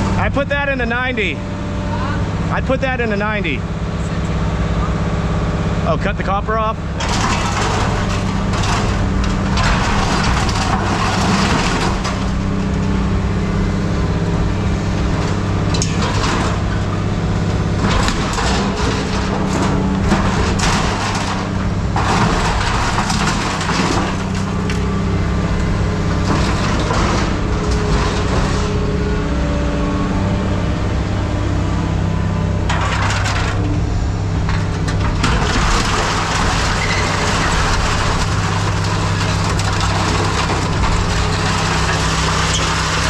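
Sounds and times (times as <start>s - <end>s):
heavy engine running: 0.0s - 43.0s
rough rattling and scraping: 0.0s - 43.0s.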